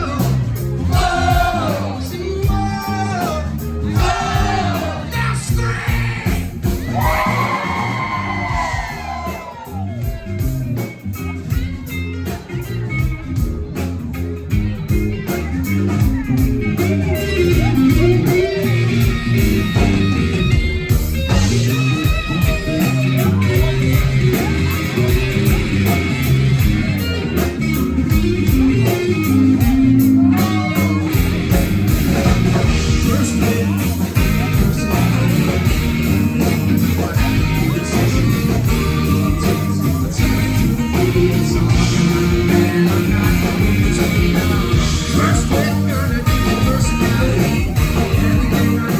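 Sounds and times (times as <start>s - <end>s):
bass guitar: 0.0s - 48.9s
drums: 0.0s - 48.9s
electric guitar: 0.0s - 48.9s.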